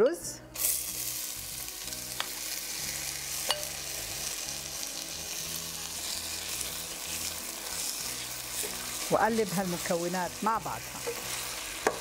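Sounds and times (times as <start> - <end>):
rice sizzling in oil: 0.6 - 12.0.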